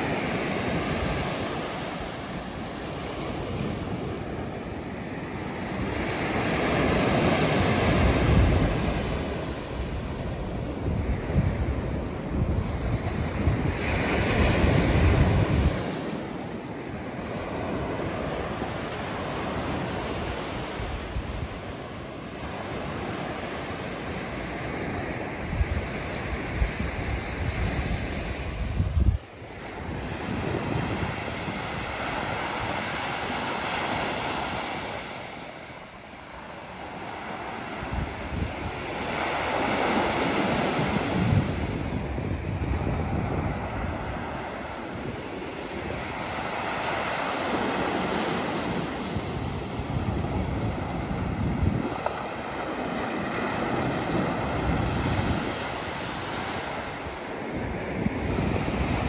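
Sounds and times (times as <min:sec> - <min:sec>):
wind buffeting microphone: 0:00.0 - 0:35.4, 0:36.9 - 0:59.0
waves breaking on beach: 0:00.0 - 0:59.0.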